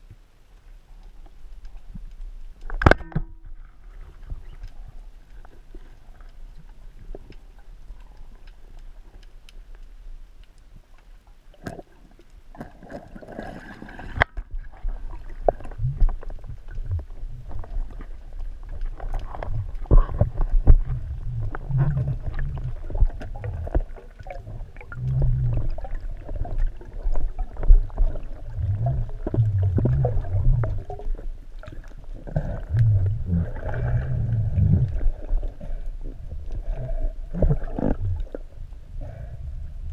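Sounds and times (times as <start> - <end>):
underwater water rumbling: 0.0 - 39.9.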